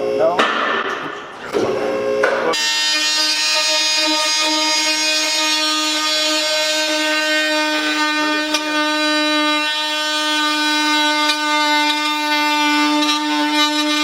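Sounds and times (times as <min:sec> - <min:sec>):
car horn blaring: 0:02.5 - 0:13.9.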